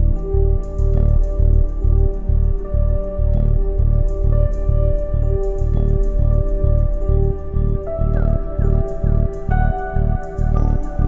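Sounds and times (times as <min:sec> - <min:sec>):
pulsing synth bass line: 0:00.0 - 0:11.0.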